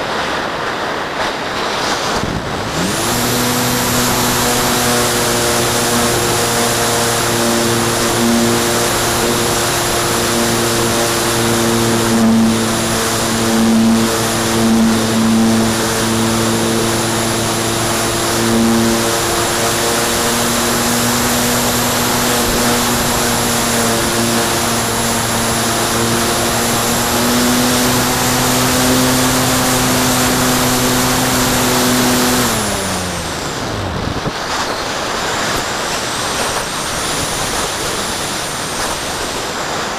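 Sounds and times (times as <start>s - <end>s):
electric motor and propeller whine: 0.0s - 39.9s
wind rushing over microphone: 0.0s - 39.9s.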